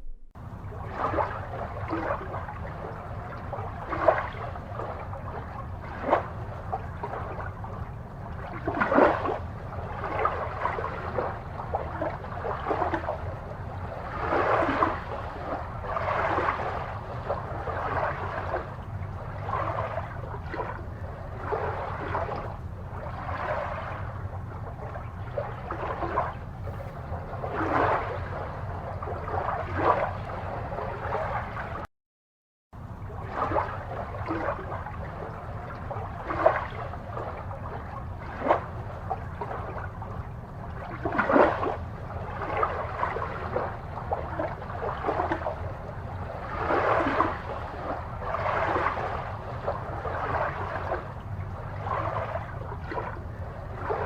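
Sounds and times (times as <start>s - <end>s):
aquarium water bubbling: 0.0s - 31.9s, 32.8s - 54.0s
steady low hum: 0.0s - 31.9s, 32.8s - 54.0s.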